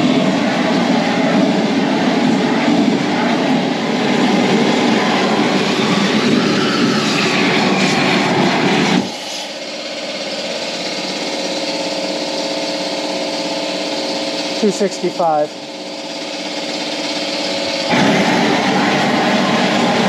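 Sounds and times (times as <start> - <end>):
propane torch flame rushing: 0.0 - 20.0
steady machine hum: 0.0 - 20.0.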